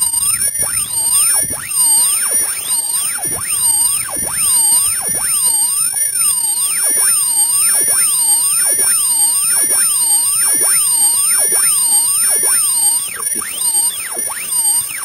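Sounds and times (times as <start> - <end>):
high-pitched electronic warble: 0.0 - 15.0.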